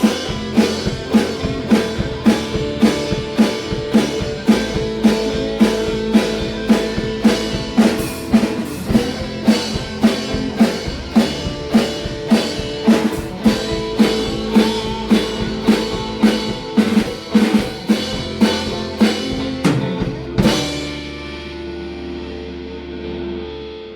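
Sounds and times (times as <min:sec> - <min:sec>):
drum kit beat: 0:00.0 - 0:21.8
guitar and bass: 0:00.0 - 0:23.9.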